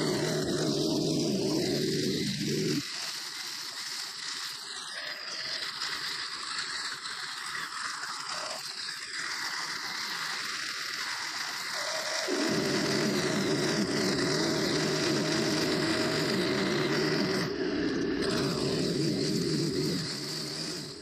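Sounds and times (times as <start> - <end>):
string trimmer cutting grass: 0.0 - 21.0.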